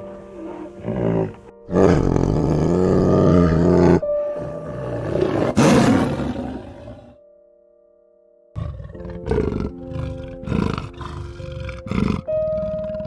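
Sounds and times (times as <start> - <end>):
gentle background music: 0.0 - 13.0.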